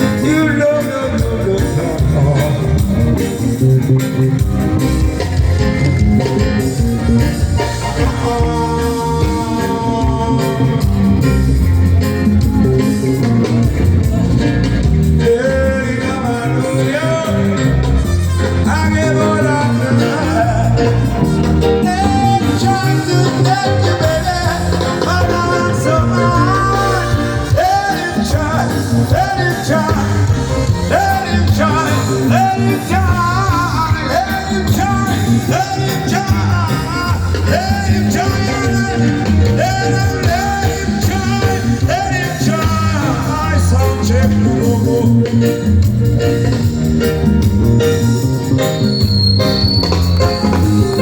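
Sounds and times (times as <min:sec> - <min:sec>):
live band playing amplified music: 0:00.0 - 0:51.0
sliding melodic phrase: 0:00.0 - 0:51.0.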